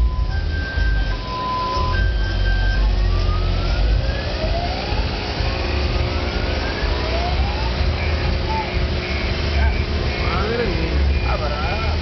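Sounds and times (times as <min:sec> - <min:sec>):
deep bass from car subwoofers: 0:00.0 - 0:12.0
siren-like electronic tones: 0:00.0 - 0:12.0.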